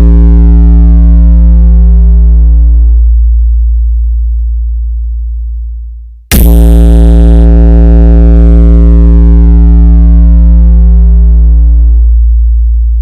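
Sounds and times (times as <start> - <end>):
deep bass test tone: 0.0 - 13.0.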